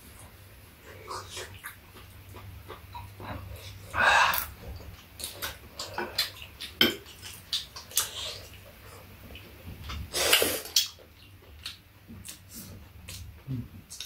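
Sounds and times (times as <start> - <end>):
slurping and chewing: 0.1 - 13.3.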